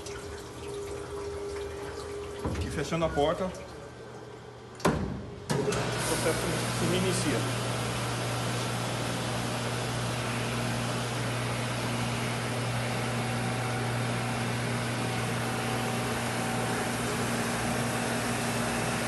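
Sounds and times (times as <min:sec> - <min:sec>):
water spraying inside washer: 0:00.0 - 0:04.2, 0:04.8 - 0:19.0
pump and motor low hum: 0:00.0 - 0:19.0.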